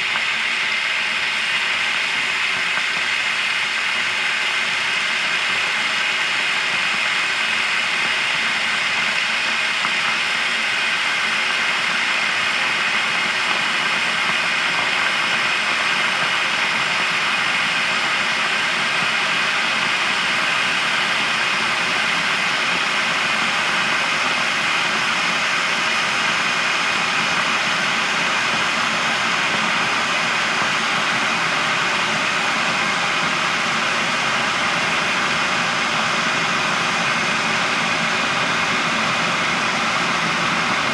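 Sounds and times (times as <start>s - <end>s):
electric kettle boiling: 0.0s - 40.9s.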